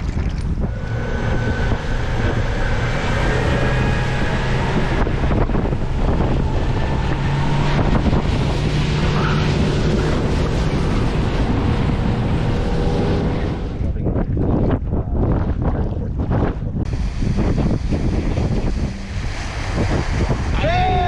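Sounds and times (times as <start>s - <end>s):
boat motor hum: 0.0s - 21.0s
wind buffeting microphone: 0.0s - 21.0s.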